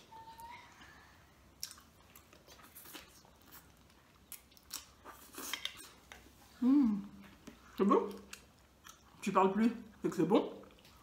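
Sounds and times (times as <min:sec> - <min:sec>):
people chewing: 0:00.4 - 0:09.2.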